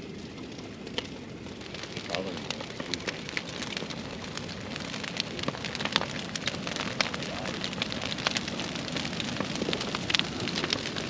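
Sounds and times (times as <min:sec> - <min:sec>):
bonfire burning with rushing hiss: 0:00.0 - 0:11.0
wood crackling and popping: 0:00.0 - 0:11.0.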